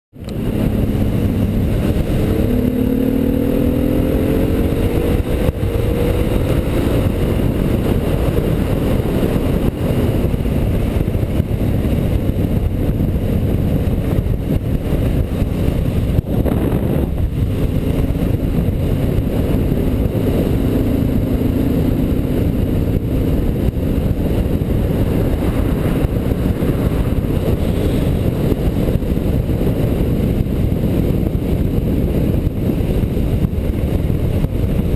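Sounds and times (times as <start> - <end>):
motorcycle engine: 0.2 - 34.9
wind rush: 0.2 - 34.9.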